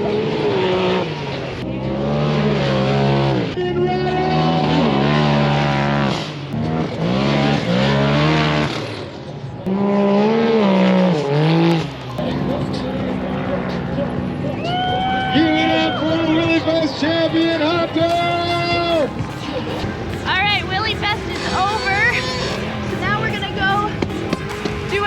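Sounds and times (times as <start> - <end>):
engine revving hard: 0.0 - 25.0.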